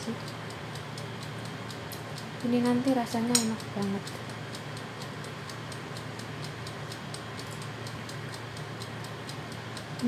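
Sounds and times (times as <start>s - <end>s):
air fryer fan whirring: 0.0s - 10.0s
clockwork timer ticking: 0.0s - 10.0s.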